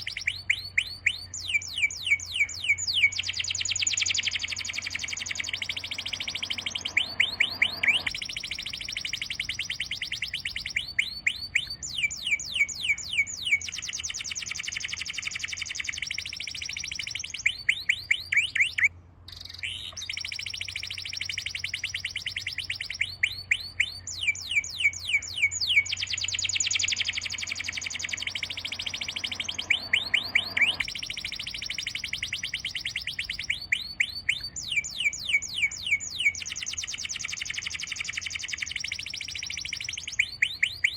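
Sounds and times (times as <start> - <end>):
bird chirps sliding downward: 0.0 - 40.9
steady high bird trill: 0.0 - 40.9.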